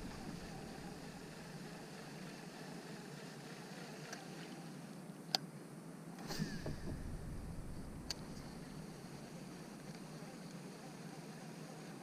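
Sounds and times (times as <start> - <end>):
faint background noise on a boat: 0.0 - 12.0.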